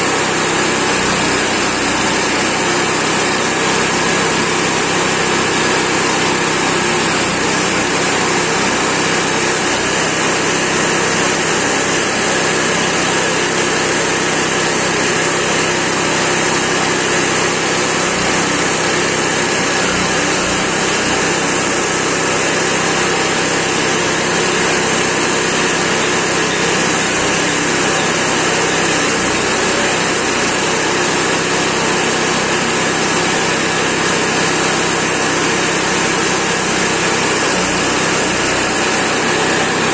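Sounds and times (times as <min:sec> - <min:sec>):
chipper shredder engine running: 0:00.0 - 0:39.9.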